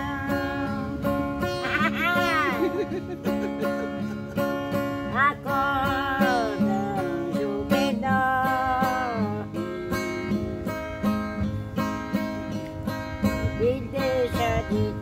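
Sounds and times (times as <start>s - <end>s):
acoustic guitar strumming: 0.0s - 15.0s
woman singing folk song: 0.0s - 15.0s.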